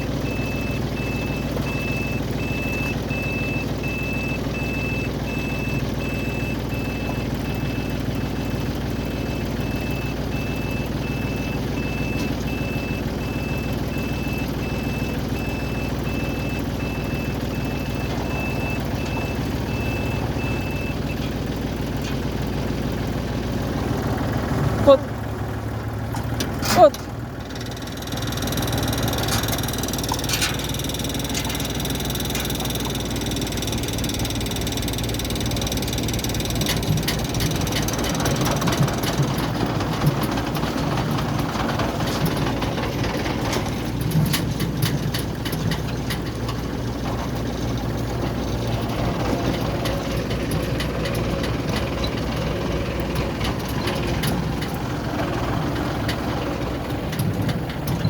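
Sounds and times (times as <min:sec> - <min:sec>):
combine harvester engine hum: 0:00.0 - 0:58.0
machinery clicks and rattles: 0:00.0 - 0:58.0.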